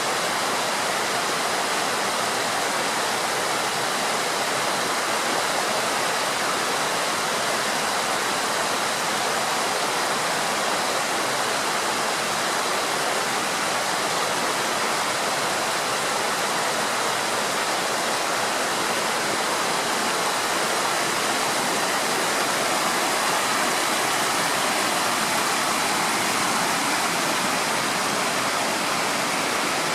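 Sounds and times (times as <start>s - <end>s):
river water rushing over weir: 0.0s - 29.9s.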